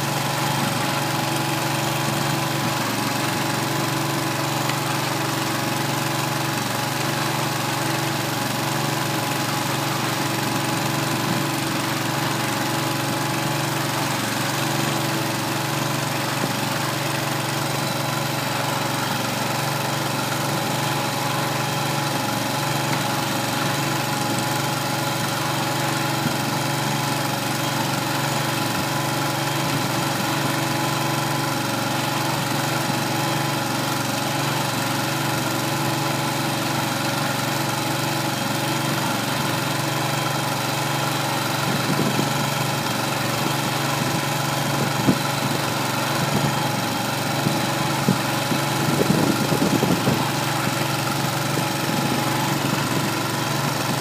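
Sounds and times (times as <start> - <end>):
feed mixer turning hay: 0.0 - 54.0
gasoline engine running: 0.0 - 54.0.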